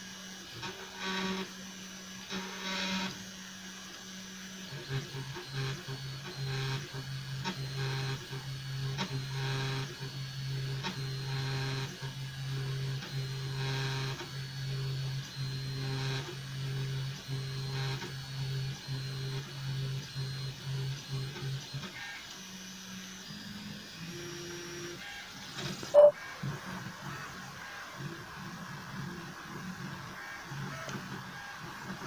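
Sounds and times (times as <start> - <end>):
printer stepper motors humming: 0.0 - 32.0.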